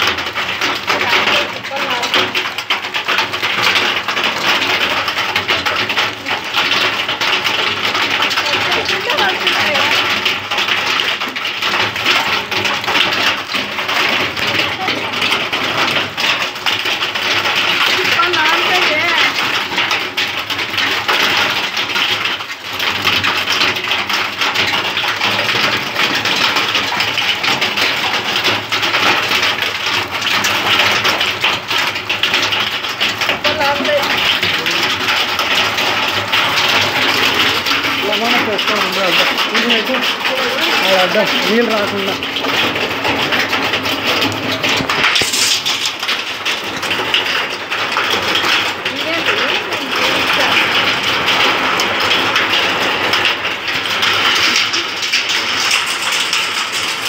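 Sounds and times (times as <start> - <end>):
hail and rain on concrete: 0.0 - 57.0.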